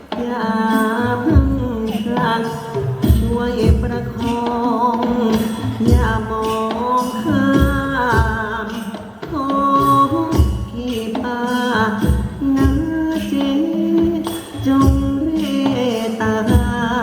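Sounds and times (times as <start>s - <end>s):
low drum beats: 0.0s - 17.0s.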